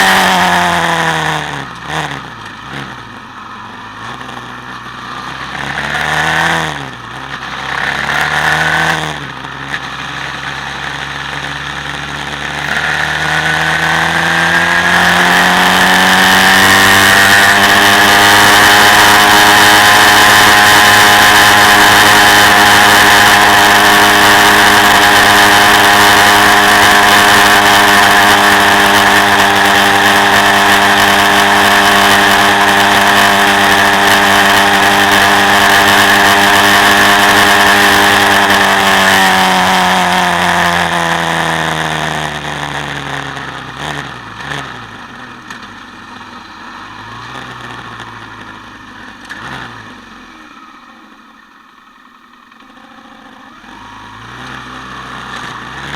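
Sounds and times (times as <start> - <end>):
quad bike engine revving: 0.0 - 55.9.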